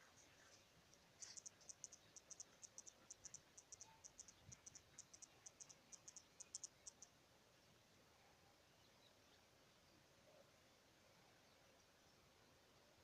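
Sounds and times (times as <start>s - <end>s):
faint high-pitched chirping: 0.0s - 12.6s.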